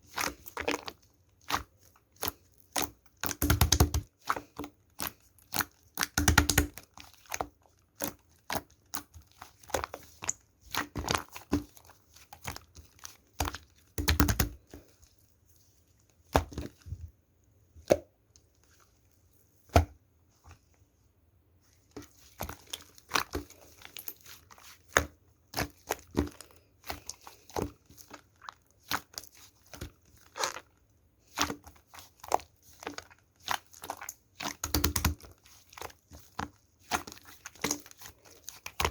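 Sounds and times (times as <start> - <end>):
slime squished by hand: 0.0 - 15.3, 21.6 - 38.9.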